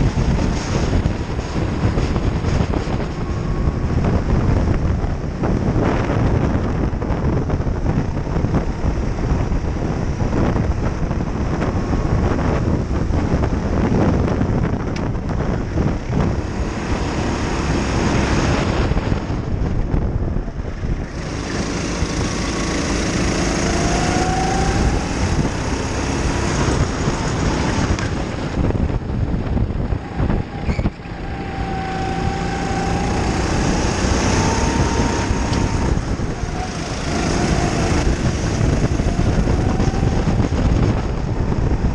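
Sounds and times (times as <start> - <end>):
go-kart engine racing: 0.0 - 41.9.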